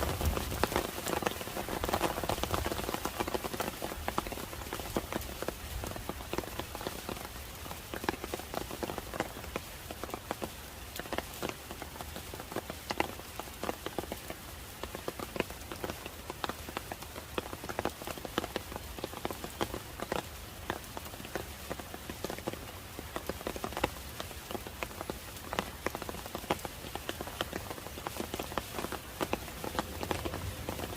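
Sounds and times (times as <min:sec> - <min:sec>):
raindrops striking close by: 0:00.0 - 0:30.9
steady rain hiss: 0:00.0 - 0:30.9.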